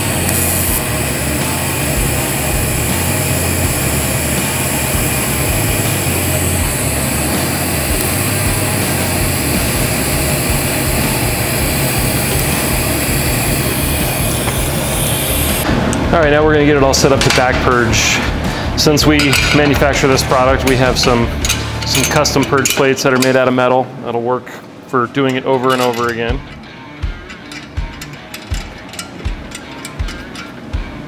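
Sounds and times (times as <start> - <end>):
machine drone with hiss and hum: 0.0 - 24.0, 25.5 - 31.0.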